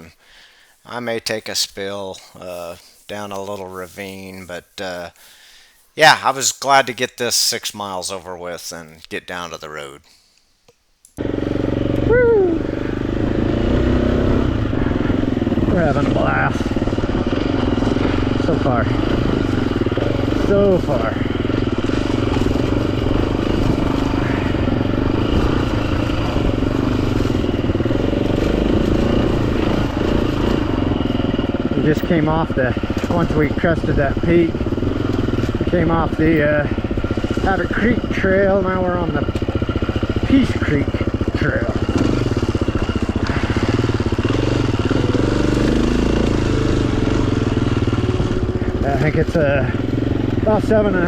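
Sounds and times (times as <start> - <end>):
dirt bike engine: 0.0 - 8.4, 11.1 - 51.0.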